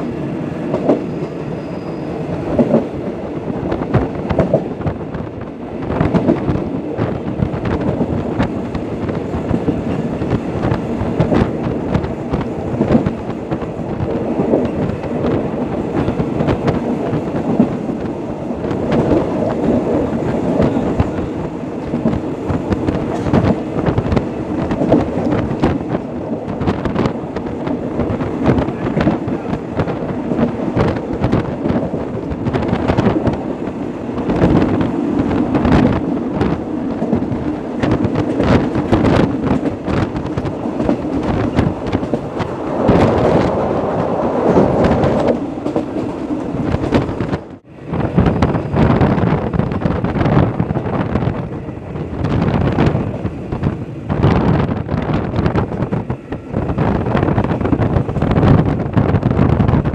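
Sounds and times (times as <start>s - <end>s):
train wheels rumbling on rails: 0.0s - 59.9s
wind buffeting microphone: 0.0s - 59.9s.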